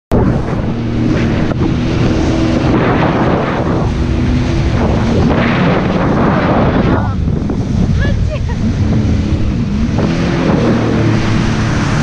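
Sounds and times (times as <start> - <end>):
jet ski engine droning: 0.1 - 12.0
wind buffeting microphone: 0.1 - 12.0.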